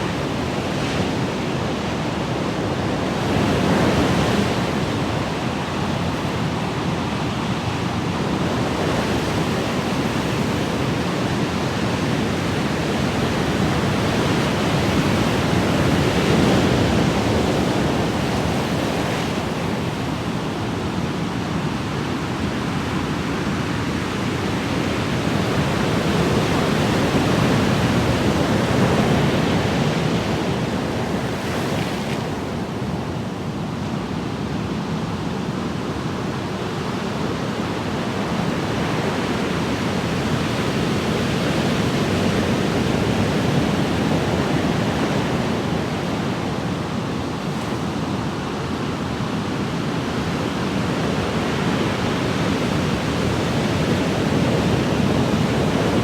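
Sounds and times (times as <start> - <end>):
ocean waves surf: 0.0 - 56.0.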